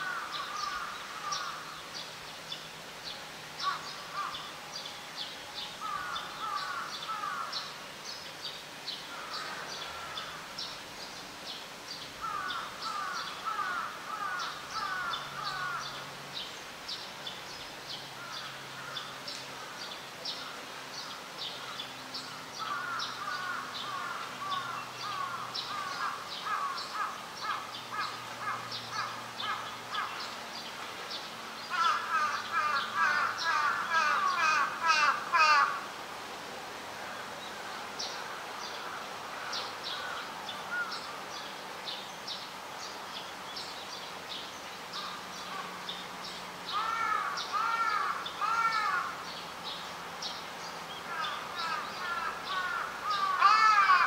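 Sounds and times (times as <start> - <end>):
birds chirping: 0.0 - 35.9, 37.0 - 54.0.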